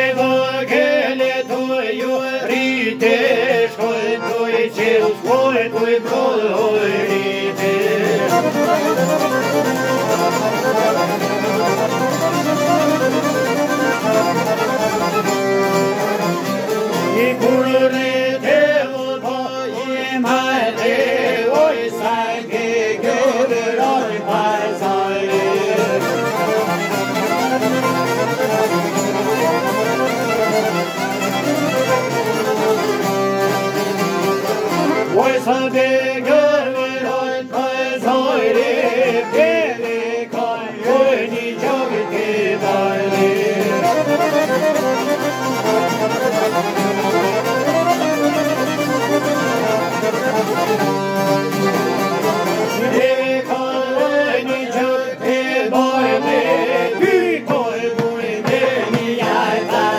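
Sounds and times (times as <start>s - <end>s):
accordion chords: 0.0s - 59.9s
violin melody: 0.0s - 59.9s.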